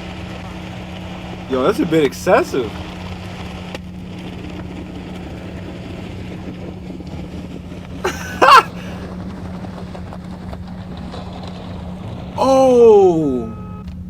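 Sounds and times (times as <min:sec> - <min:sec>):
car engine: 0:00.0 - 0:14.0
road noise: 0:00.0 - 0:14.0.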